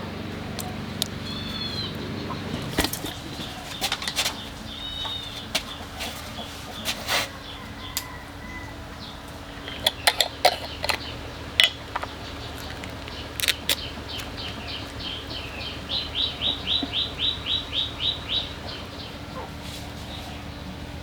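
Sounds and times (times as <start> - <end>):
bird chirping: 0.4 - 21.0.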